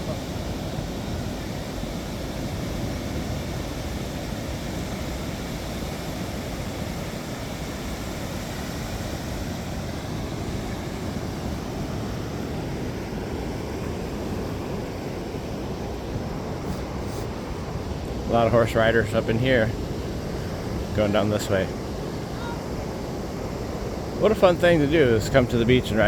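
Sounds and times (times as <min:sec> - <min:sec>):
ocean surf: 0:00.0 - 0:26.0.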